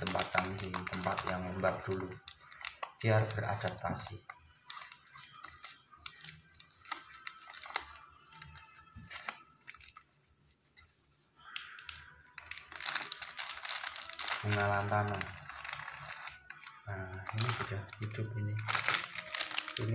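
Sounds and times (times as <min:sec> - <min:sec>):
thin plastic crinkling and tearing: 0:00.0 - 0:19.9.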